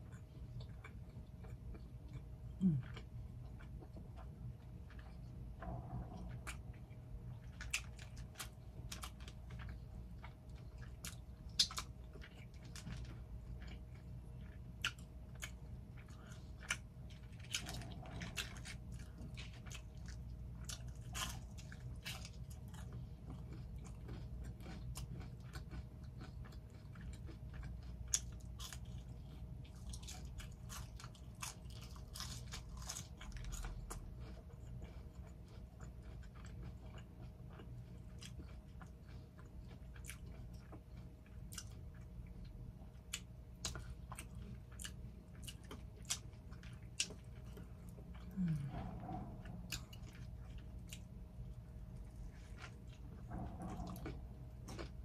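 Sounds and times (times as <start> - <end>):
chewing and biting food: 0.0 - 55.0
faint steady hum: 0.0 - 55.0.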